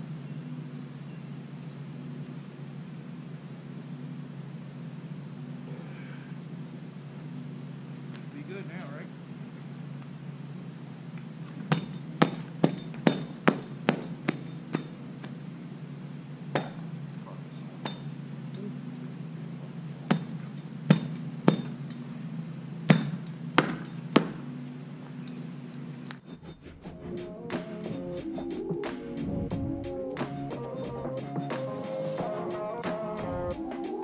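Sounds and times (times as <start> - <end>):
steady low hum: 0.0 - 31.4, 32.0 - 34.0.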